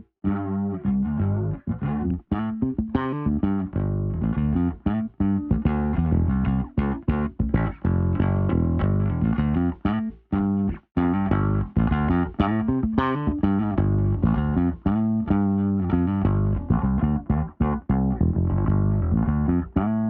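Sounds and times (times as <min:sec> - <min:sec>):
electric bass plucked notes: 0:00.0 - 0:20.0.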